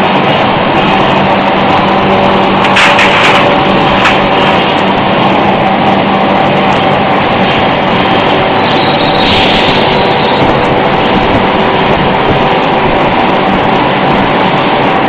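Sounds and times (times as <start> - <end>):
loud machine drone with hum: 0.0 - 15.0.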